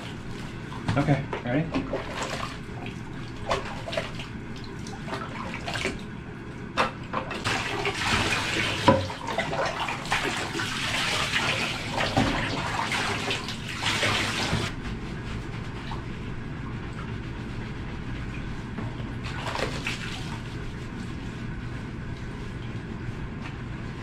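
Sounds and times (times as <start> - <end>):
water splashing in a bathtub: 0.0 - 24.0.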